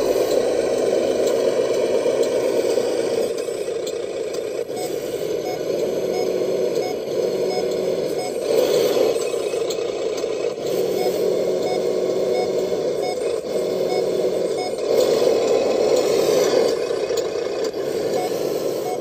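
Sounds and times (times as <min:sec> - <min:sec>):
diesel truck engine running: 0:00.0 - 0:19.0
reversing warning beeps: 0:00.0 - 0:19.0.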